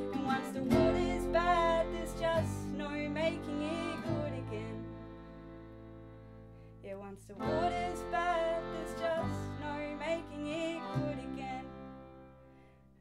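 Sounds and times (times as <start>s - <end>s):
folk trio playing a tune: 0.0s - 6.8s, 7.4s - 12.5s.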